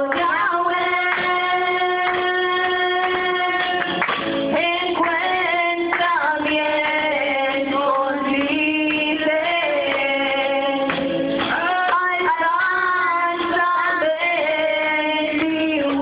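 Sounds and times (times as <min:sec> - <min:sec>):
musical accompaniment: 0:00.0 - 0:16.0
woman singing: 0:00.0 - 0:16.0.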